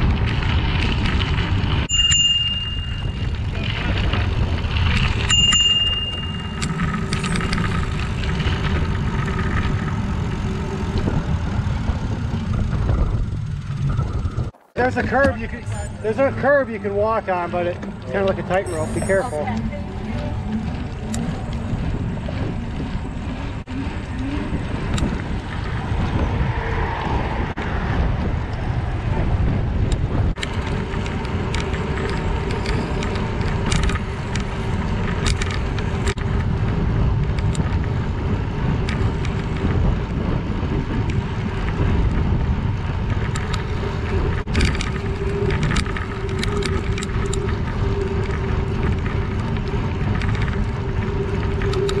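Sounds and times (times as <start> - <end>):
bicycle tyres rumbling on trail: 0.0 - 52.0
wind buffeting microphone: 0.0 - 52.0.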